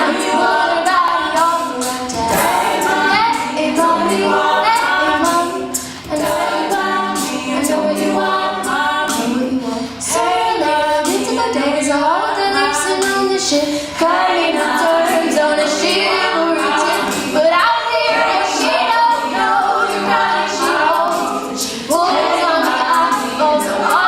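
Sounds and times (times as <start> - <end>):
a cappella group singing: 0.0 - 24.0.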